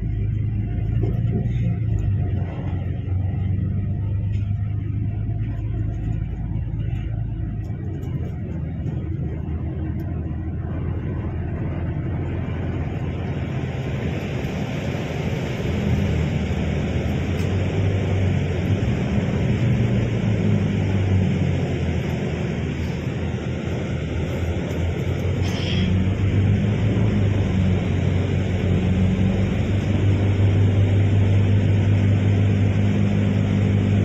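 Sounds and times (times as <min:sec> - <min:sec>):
car interior rumble: 0:00.0 - 0:34.0
road and wind noise: 0:00.0 - 0:34.0.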